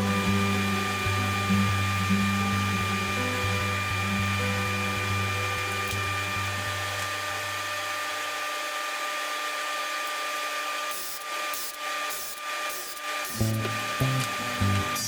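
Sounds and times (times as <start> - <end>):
woodworking machine motor whine: 0.0 - 15.0.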